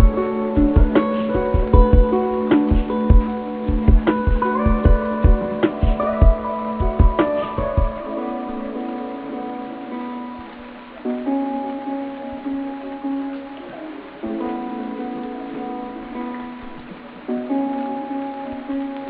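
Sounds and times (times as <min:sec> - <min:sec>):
plucked string music: 0:00.0 - 0:19.0.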